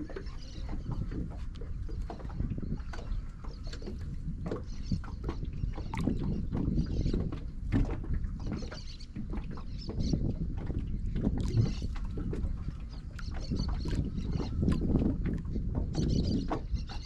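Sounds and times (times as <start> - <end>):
water splashing and sloshing: 0.0 - 17.0
wind rumble on microphone: 0.0 - 17.0.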